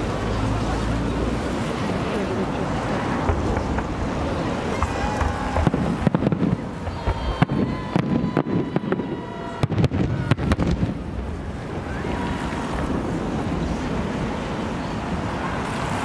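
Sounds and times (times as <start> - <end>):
fireworks bangs: 1.6 - 16.0.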